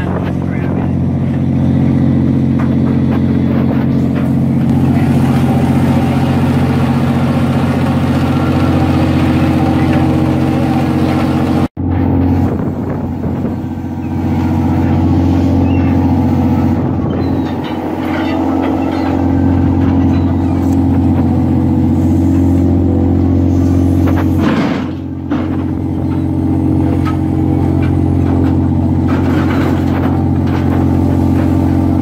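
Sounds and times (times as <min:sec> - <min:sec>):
boat engine and hydraulics drone: 0:00.0 - 0:32.0.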